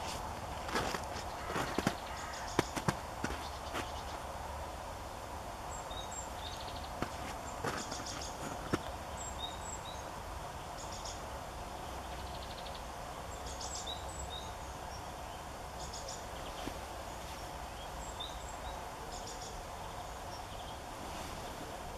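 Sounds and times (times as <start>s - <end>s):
songbirds chirping: 0.0s - 21.9s.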